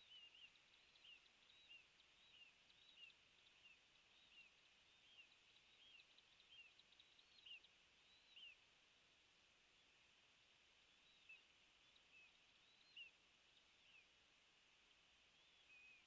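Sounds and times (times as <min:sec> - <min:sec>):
faint bird chirps: 0:00.0 - 0:09.0, 0:09.6 - 0:16.0
soft high hiss: 0:00.0 - 0:16.0.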